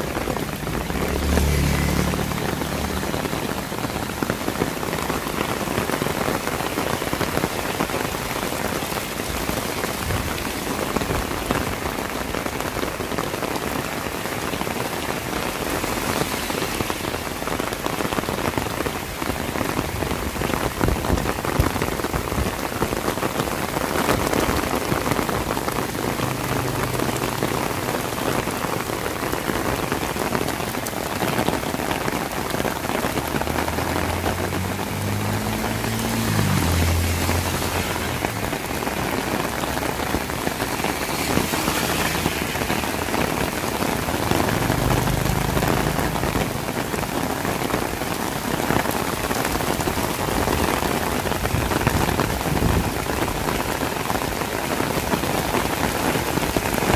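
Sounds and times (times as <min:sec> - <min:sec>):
rain on pavement: 0:00.0 - 0:56.9.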